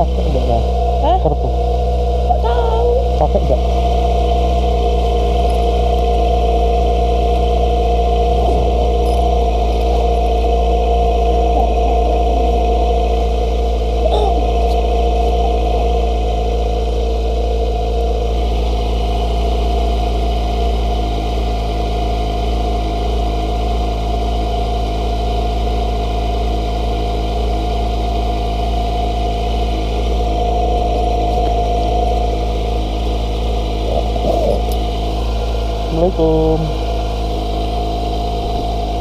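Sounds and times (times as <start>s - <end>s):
motorcycle engine running steadily: 0.0s - 39.0s.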